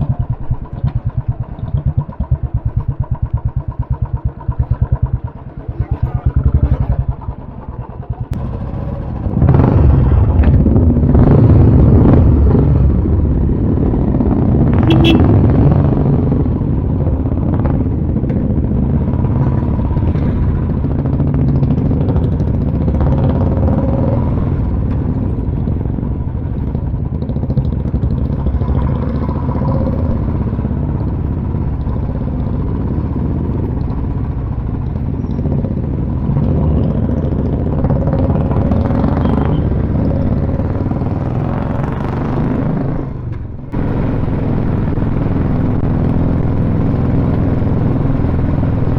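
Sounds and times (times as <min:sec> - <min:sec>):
motorcycle engines running: 0:00.0 - 0:48.9.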